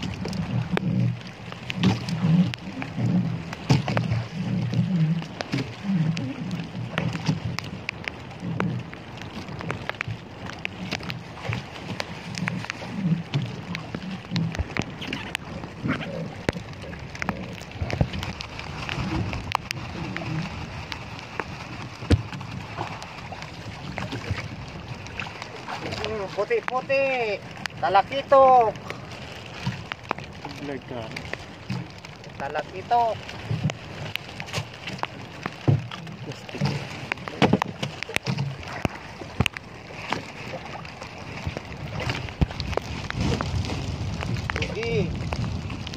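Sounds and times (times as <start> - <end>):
sharp taps and crackles: 0.0 - 23.1, 29.6 - 45.9
wind noise: 0.0 - 31.9, 32.8 - 45.9
rain pattering: 0.0 - 45.9
water sloshing against boat hull: 0.0 - 45.9.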